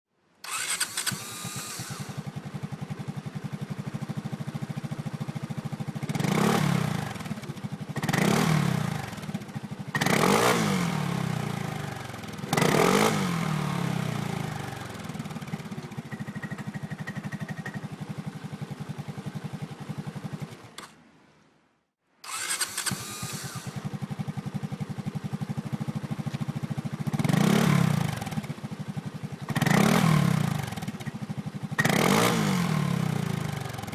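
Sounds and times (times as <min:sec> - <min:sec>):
scooter engine idling and revving: 0:00.4 - 0:21.0, 0:22.3 - 0:33.9.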